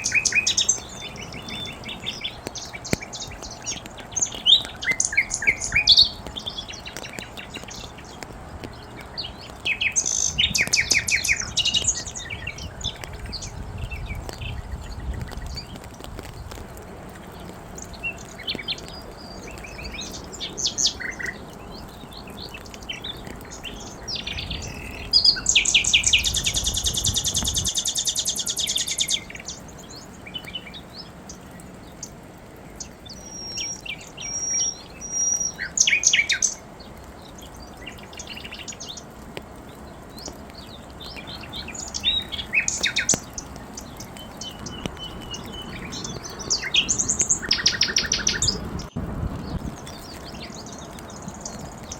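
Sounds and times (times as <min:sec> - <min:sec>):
wild birds singing and chirping: 0:00.0 - 0:51.9.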